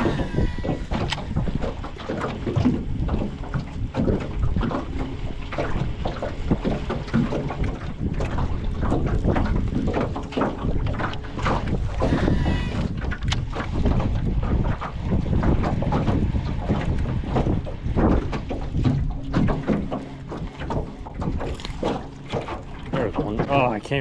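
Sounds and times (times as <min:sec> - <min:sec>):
knocks on boat: 0:00.0 - 0:24.0
water slapping hull: 0:00.0 - 0:24.0
wind gusting over microphone: 0:00.0 - 0:24.0.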